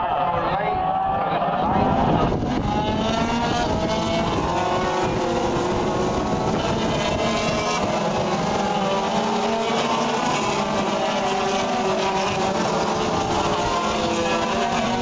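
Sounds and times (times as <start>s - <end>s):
racing engines running: 0.0s - 15.0s.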